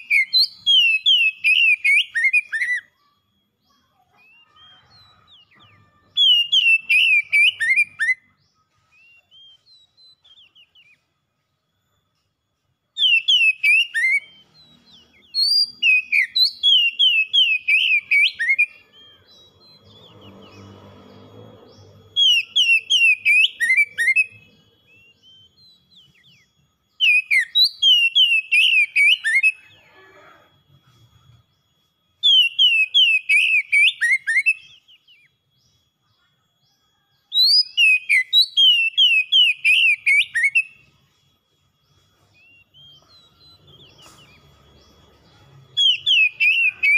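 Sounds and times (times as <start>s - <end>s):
bird singing whistled notes: 0.0s - 46.9s
faint steady high tone: 0.0s - 46.9s.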